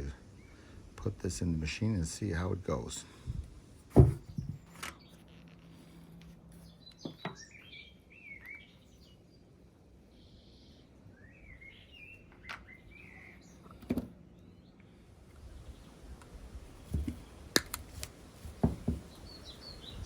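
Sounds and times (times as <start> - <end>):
birds chirping faintly: 0.0 - 20.0.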